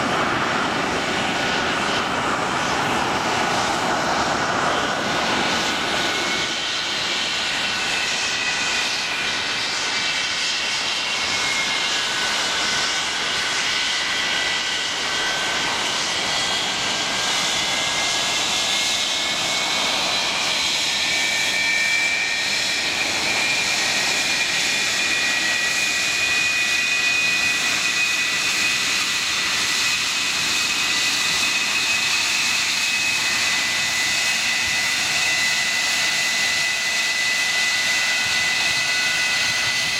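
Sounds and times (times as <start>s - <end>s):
jet engine roar with whine: 0.0s - 39.9s.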